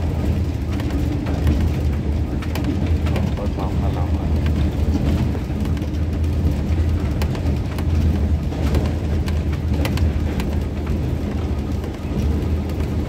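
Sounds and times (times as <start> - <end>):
sharp clicks and knocks: 0.0 - 13.0
train running rumble: 0.0 - 13.0.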